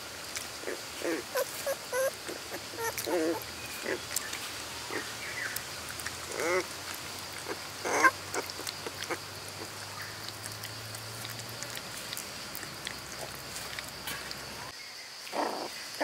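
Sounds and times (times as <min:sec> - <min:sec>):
puppies whimpering: 0:00.6 - 0:14.7.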